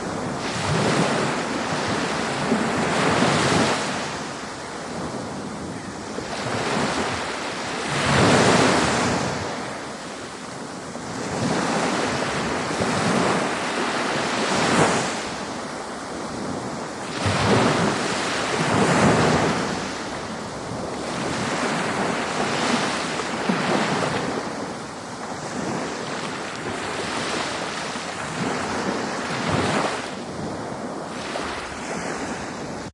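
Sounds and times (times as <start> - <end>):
ocean waves breaking: 0.0 - 32.9.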